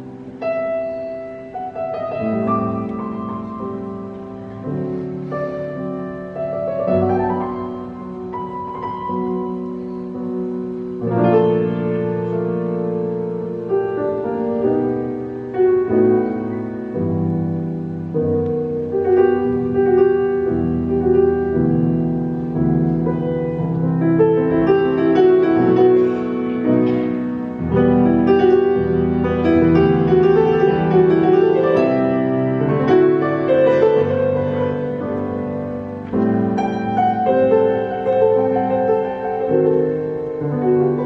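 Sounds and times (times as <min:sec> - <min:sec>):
grand piano chords and melody: 0:00.0 - 0:41.0.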